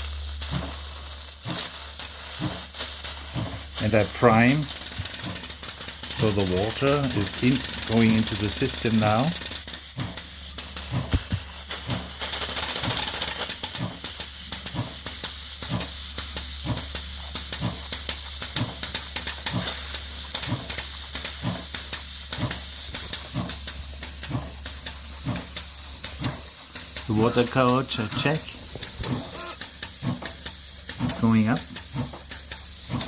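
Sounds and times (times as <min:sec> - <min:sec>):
steam hissing: 0:00.0 - 0:33.0
steam pump puffing rhythmically: 0:00.0 - 0:33.0.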